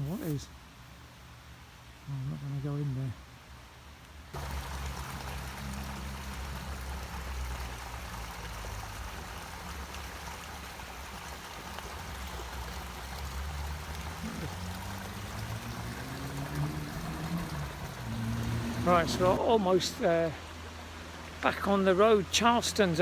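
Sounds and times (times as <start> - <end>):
river water rushing: 4.3 - 23.0.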